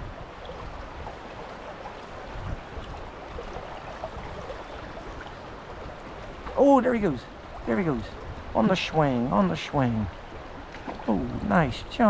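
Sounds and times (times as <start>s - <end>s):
river current rushing: 0.0s - 12.0s.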